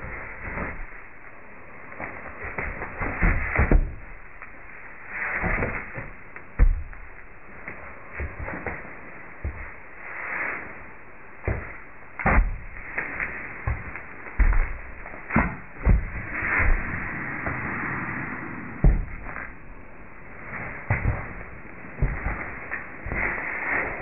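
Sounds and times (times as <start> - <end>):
horse hooves shifting in shavings: 0.0 - 24.0.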